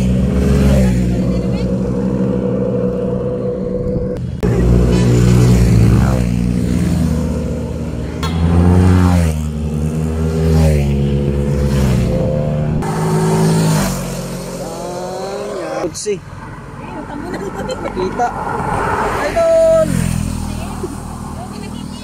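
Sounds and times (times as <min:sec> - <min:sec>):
motorcycles passing at speed: 0:00.0 - 0:22.0.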